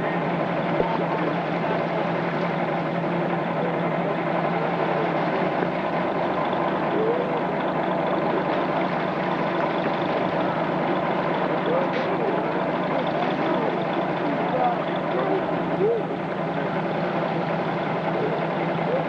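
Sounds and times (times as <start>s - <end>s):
motorboat engine idling: 0.0s - 19.0s.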